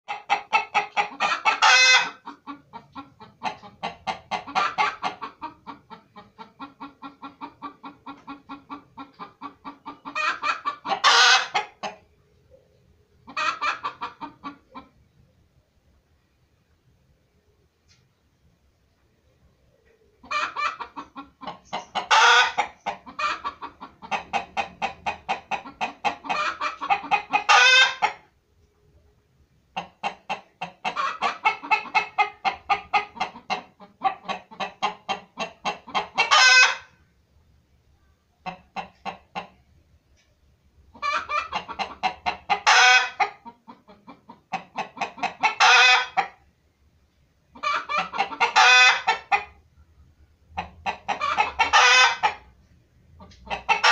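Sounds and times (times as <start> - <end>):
chicken clucking: 0.0 - 16.8, 17.8 - 46.6, 47.4 - 53.9.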